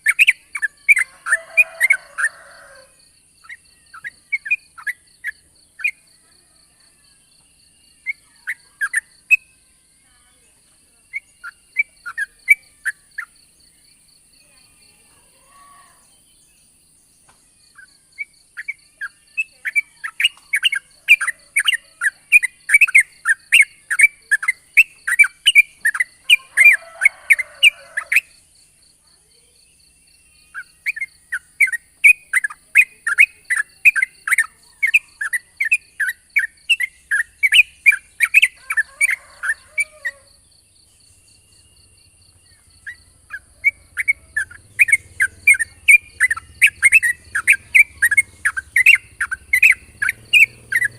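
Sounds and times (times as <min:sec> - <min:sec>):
bird chattering song: 0:00.0 - 0:06.3, 0:07.5 - 0:28.5, 0:29.3 - 0:40.2, 0:40.8 - 0:50.9.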